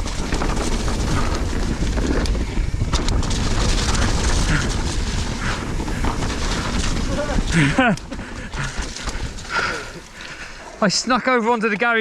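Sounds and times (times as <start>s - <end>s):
bike knocks and rattles: 0.0s - 10.6s
wind buffeting microphone: 0.0s - 10.9s.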